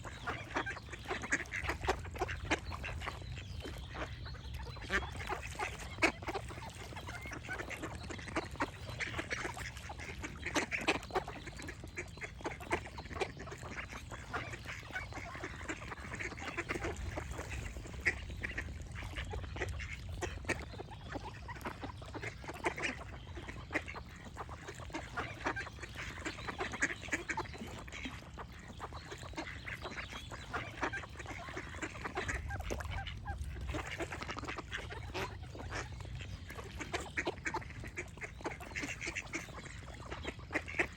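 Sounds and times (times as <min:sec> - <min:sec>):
ducks quacking: 0:00.0 - 0:40.9.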